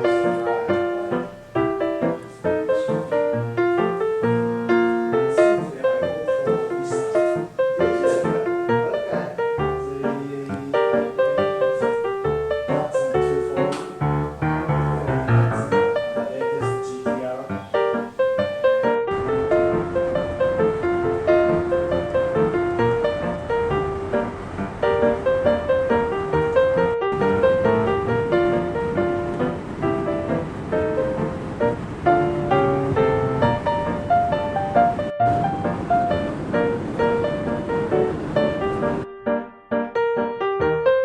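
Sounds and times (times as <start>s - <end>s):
lively piano music: 0.0s - 41.0s.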